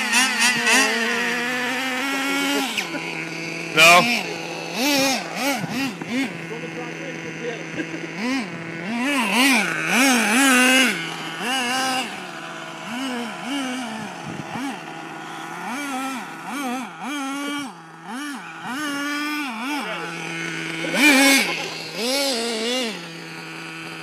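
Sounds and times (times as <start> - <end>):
small engine idling and revving: 0.0 - 24.0.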